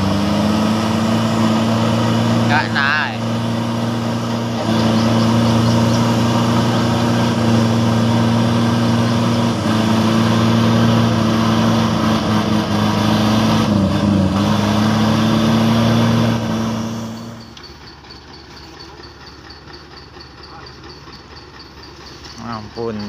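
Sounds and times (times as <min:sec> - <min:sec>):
truck diesel engine straining: 0:00.0 - 0:23.0.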